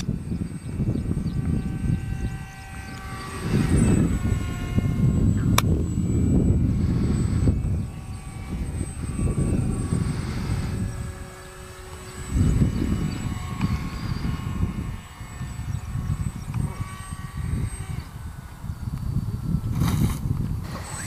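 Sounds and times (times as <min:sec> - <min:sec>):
model plane propeller whining: 0:00.0 - 0:21.0.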